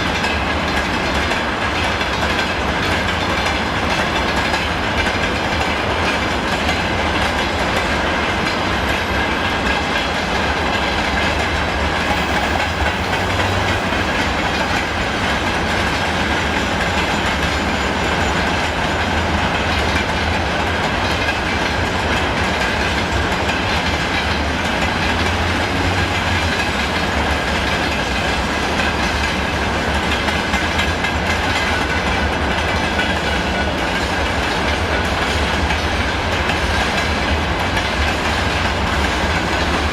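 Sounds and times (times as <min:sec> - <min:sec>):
train rumbling on rails: 0:00.0 - 0:39.9
wheels clacking over rail joints: 0:00.0 - 0:39.9.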